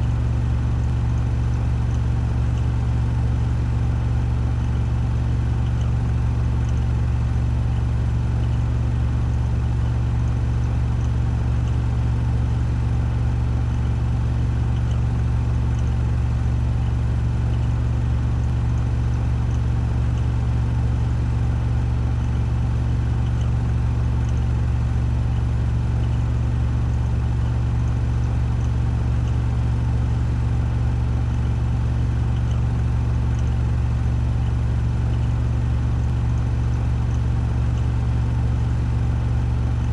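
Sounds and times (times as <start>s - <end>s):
washing machine spin cycle: 0.0s - 39.9s.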